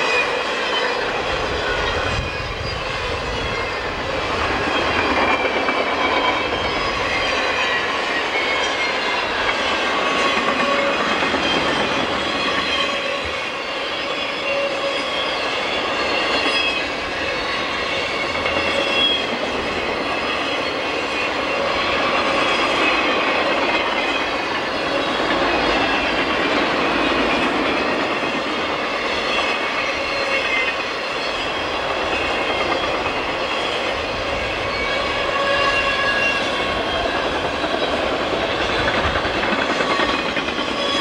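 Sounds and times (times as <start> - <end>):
freight train wheels rumbling on rail: 0.0 - 41.0
high wheel squeal: 0.0 - 41.0.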